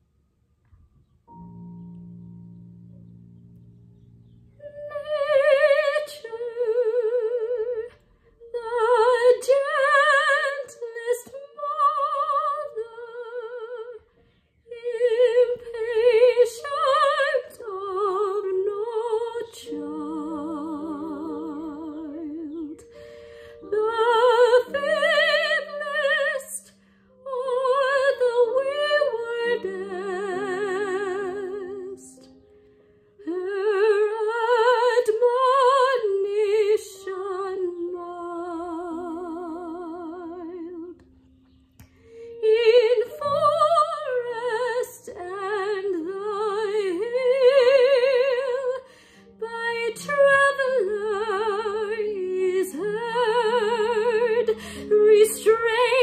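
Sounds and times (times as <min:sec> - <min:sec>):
piano accompaniment: 0:00.7 - 0:56.0
soprano singing with vibrato: 0:04.6 - 0:14.1, 0:14.7 - 0:32.4, 0:33.2 - 0:41.0, 0:42.3 - 0:56.0.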